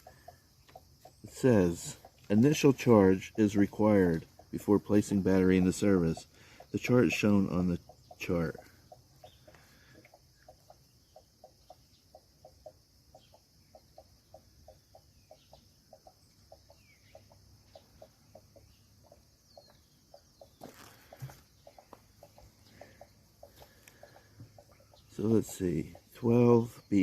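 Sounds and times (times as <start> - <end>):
chickens clucking: 0.0 - 27.0
high bird chirps: 4.2 - 27.0.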